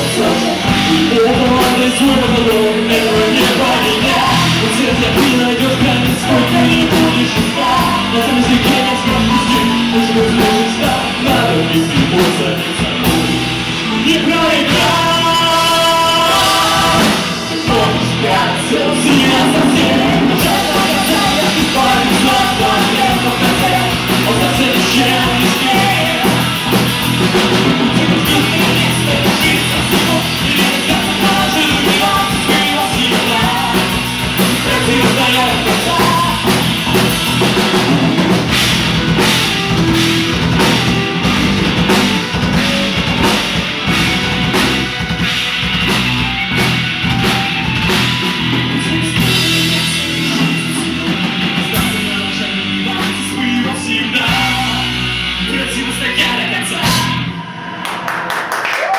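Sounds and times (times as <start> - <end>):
person singing: 0.0 - 38.6, 47.0 - 57.4
drum kit beat: 0.0 - 55.5
rock band playing live: 0.0 - 58.9.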